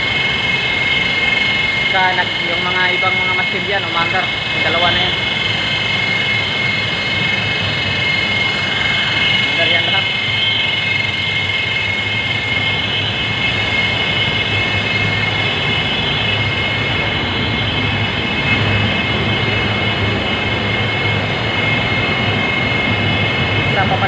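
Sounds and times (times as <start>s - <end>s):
blower fans rushing air: 0.0s - 24.0s
high-pitched fan whine: 0.0s - 24.0s.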